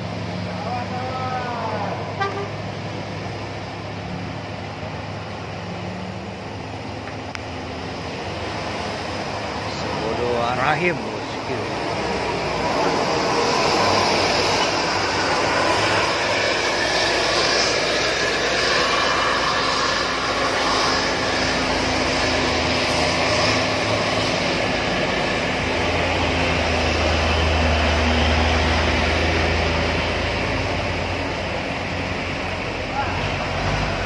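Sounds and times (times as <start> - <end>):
diesel engines running: 0.0 - 34.0
truck engine drone passing: 0.0 - 34.0.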